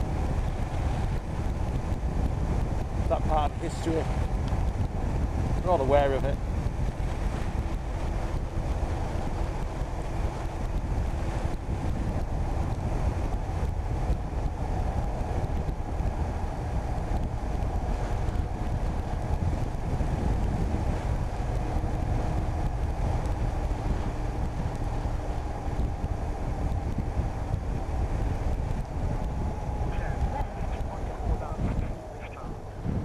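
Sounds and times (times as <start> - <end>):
wind buffeting microphone: 0.0 - 33.0
motorcycle engine running: 4.2 - 33.0.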